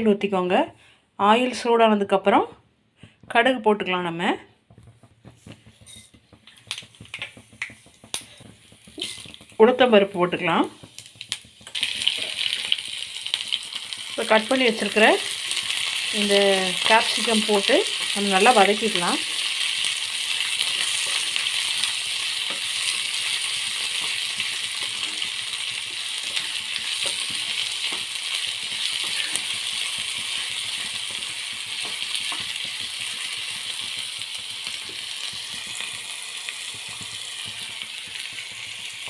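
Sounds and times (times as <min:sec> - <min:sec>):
vegetables sizzling in oil: 0:05.0 - 0:39.0.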